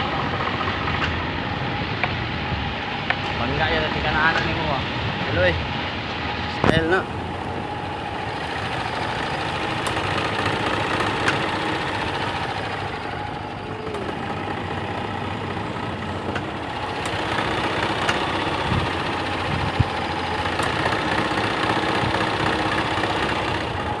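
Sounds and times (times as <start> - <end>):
golf cart engine running: 0.0 - 24.0.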